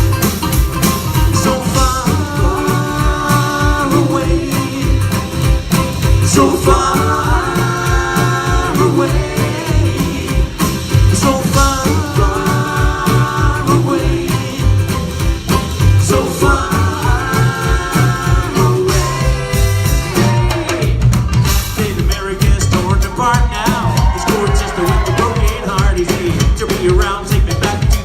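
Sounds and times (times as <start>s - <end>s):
acoustic band playing: 0.0s - 28.0s
steady drum beat: 0.0s - 28.0s.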